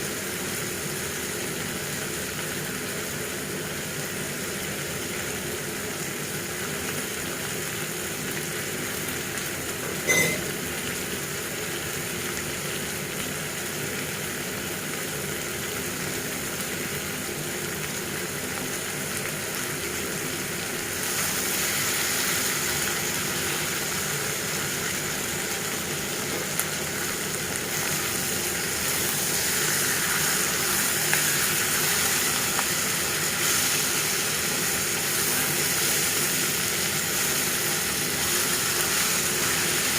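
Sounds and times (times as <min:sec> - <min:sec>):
curry sizzling in a pan: 0:00.0 - 0:39.9.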